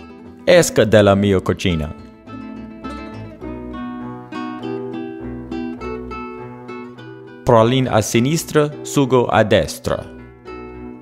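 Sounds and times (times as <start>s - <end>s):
plucked guitar melody: 0.0s - 11.0s.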